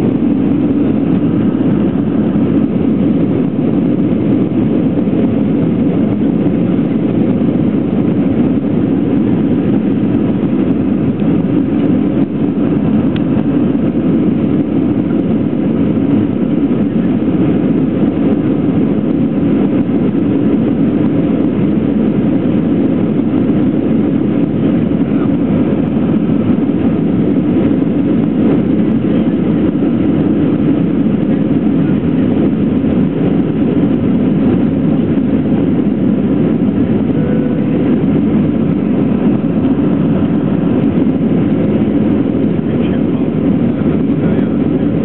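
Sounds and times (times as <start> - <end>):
jet engines roaring: 0.0 - 45.0.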